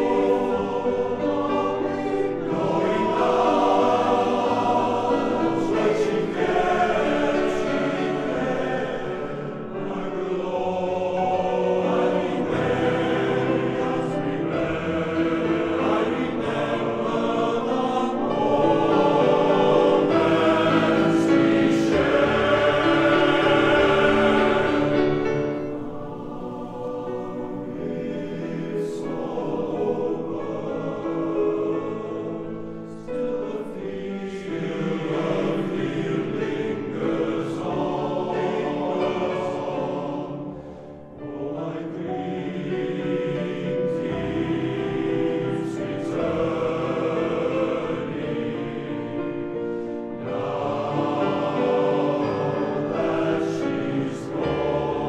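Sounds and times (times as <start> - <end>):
male choir singing in harmony: 0.0 - 55.0.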